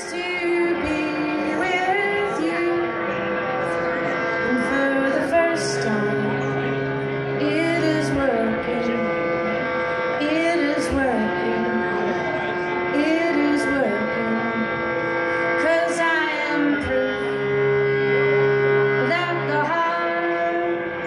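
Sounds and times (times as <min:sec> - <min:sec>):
fiddle playing: 0:00.0 - 0:21.0.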